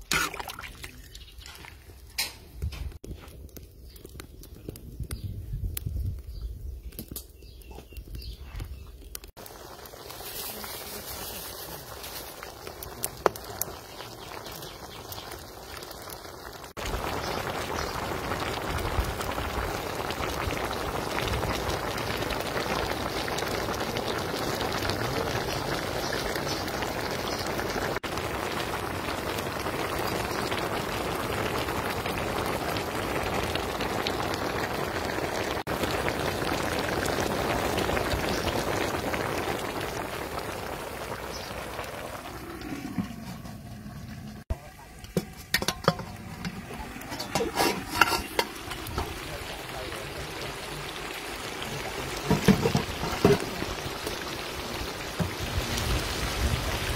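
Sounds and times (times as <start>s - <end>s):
curry boiling and bubbling: 0.0s - 56.9s.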